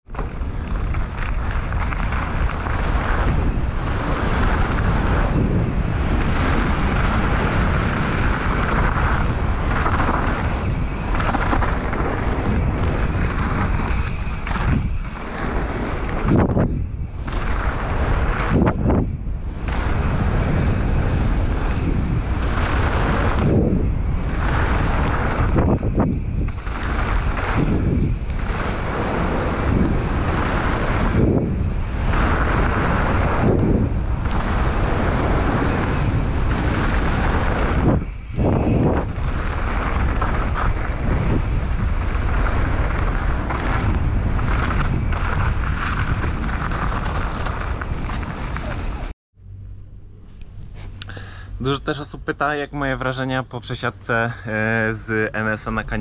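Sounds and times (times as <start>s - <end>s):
wind buffeting microphone: 0.0s - 49.1s
bike rattling: 0.0s - 49.6s
tyres rolling over dirt: 0.1s - 49.1s.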